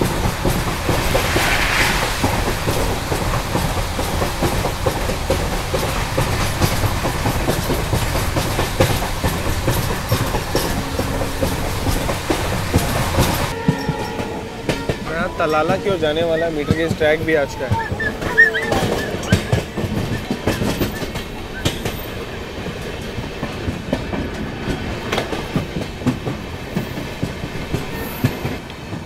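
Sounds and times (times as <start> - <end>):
train rumbling on track: 0.0 - 29.0
wheels clattering over rail joints: 0.0 - 29.0.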